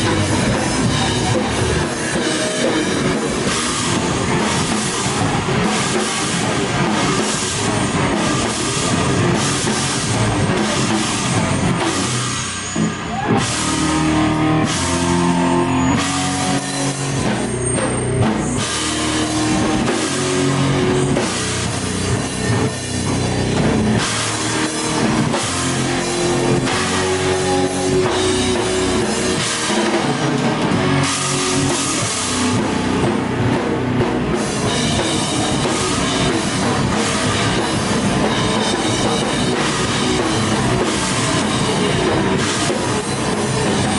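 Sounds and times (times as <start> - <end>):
bass guitar: 0.0 - 43.9
drum kit with crashing cymbals: 0.0 - 43.9
electric guitar riffs: 0.0 - 43.9.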